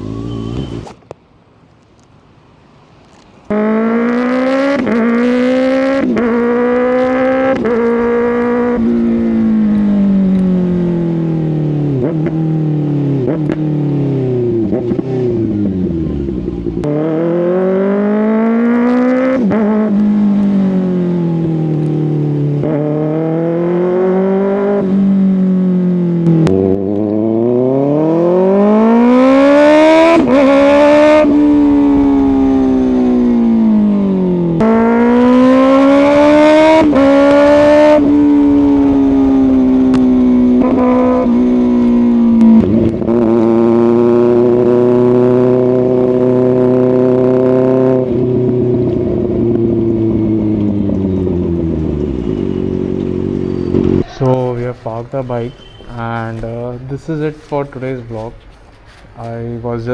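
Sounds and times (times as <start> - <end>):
motorcycle engine revving: 3.5 - 54.6.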